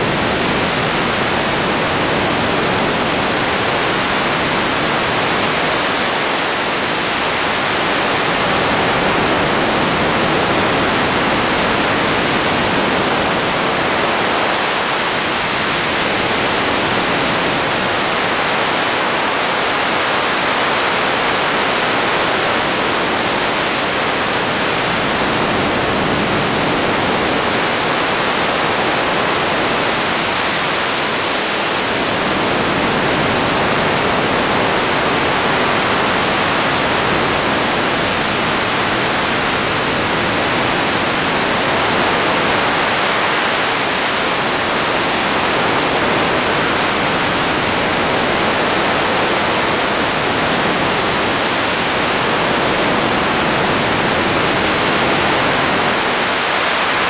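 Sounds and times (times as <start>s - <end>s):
radio static hiss: 0.0s - 57.0s.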